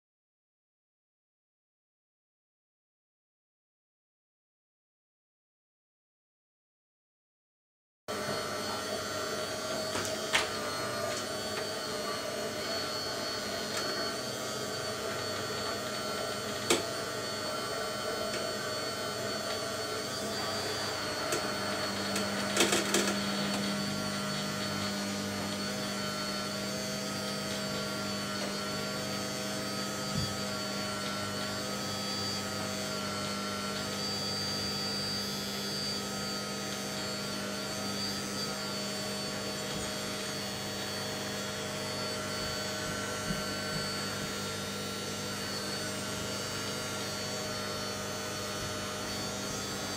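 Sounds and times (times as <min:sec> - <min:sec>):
hydraulic pump whine: 0:08.1 - 0:49.9.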